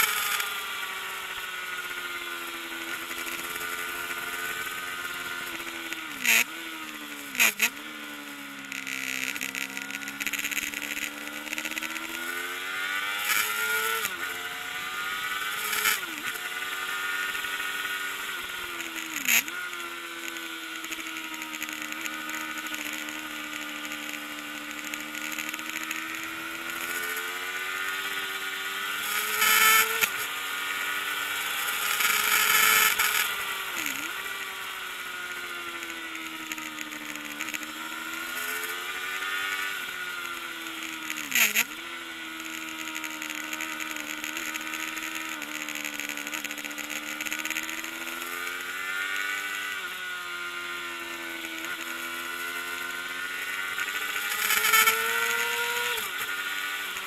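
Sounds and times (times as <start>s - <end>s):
motorcycle engine racing: 0.0s - 57.0s.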